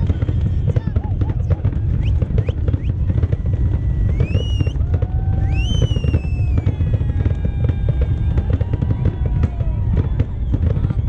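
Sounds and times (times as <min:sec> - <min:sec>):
booming firework shells: 0:00.0 - 0:11.0
crackling firework pops: 0:00.0 - 0:11.0
rising firework whistles: 0:00.0 - 0:11.0.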